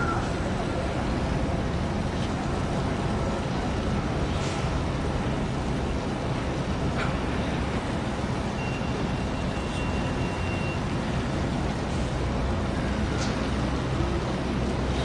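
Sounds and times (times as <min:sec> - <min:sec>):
continuous noise haze: 0:00.0 - 0:15.0
low rumble of distant engines: 0:00.0 - 0:15.0.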